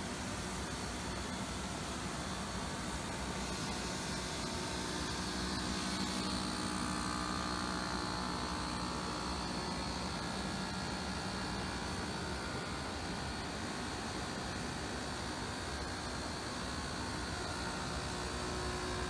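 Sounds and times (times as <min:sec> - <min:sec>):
centrifuge hum and whine: 0:00.0 - 0:19.0.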